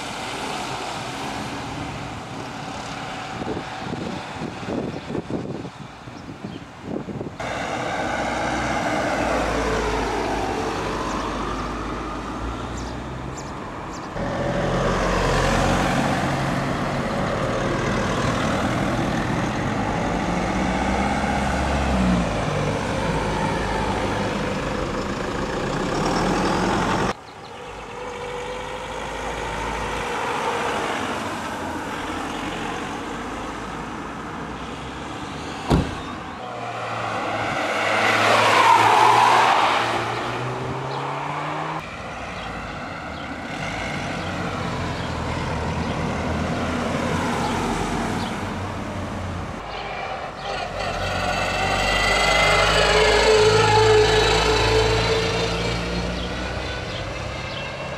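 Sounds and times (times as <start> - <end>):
cars driving past: 7.4 - 57.9.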